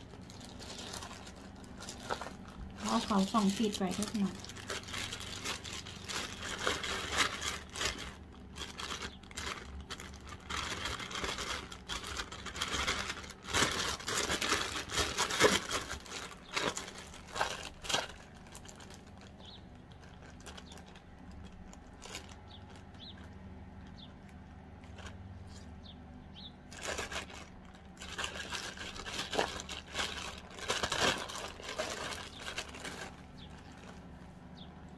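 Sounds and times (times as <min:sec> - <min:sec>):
plastic bag crinkling: 0:00.0 - 0:25.8, 0:26.6 - 0:34.9.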